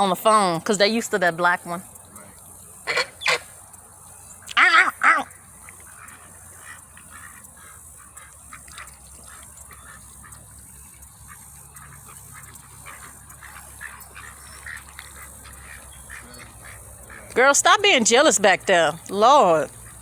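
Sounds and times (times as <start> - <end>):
ducks and geese quacking: 0.0 - 20.0.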